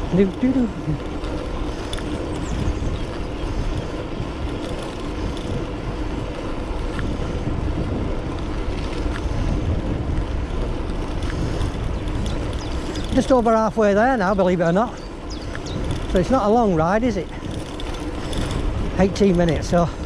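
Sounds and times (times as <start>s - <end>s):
tyre noise on road: 0.0s - 20.0s
wind buffeting microphone: 0.0s - 20.0s.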